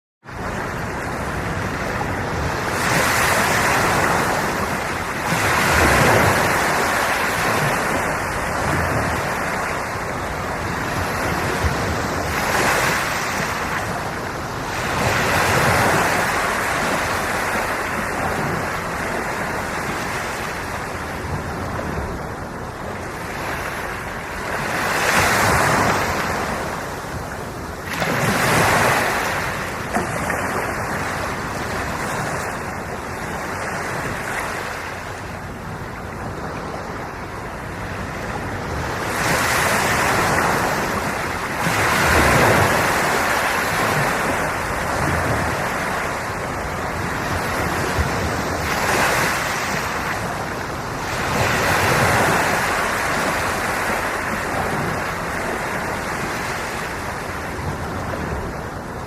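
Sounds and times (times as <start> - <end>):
ocean waves breaking on shore: 0.2 - 59.0.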